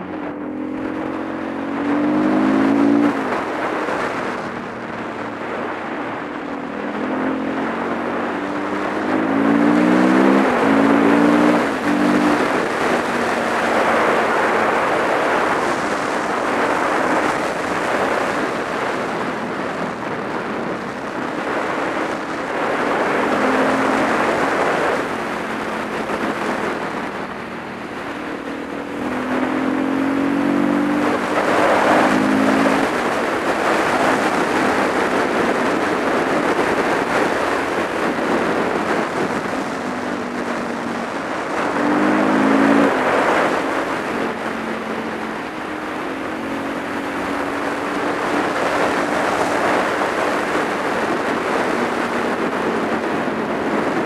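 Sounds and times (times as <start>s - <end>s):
motorcycle engine accelerating: 0.0s - 54.0s
wind rushing over microphone: 0.0s - 54.0s.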